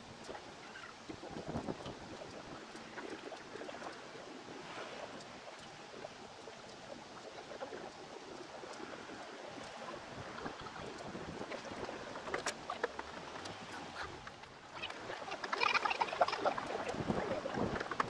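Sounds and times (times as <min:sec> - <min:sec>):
faint ticks and clicks: 0:00.0 - 0:18.0
moving water: 0:00.0 - 0:18.0.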